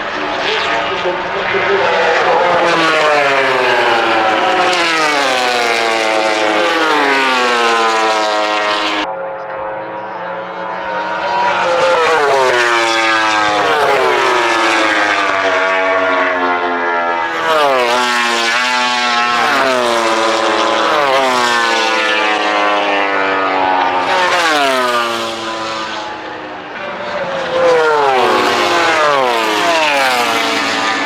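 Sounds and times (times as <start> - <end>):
racing motorcycles passing: 0.0 - 31.0.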